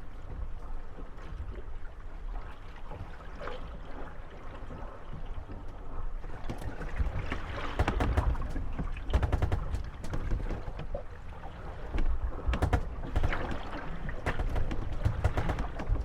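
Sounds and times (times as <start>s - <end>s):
boats knocking and creaking: 0.0s - 16.0s
low wind and water rumble: 0.0s - 16.0s
waves lapping against boats: 0.0s - 16.0s.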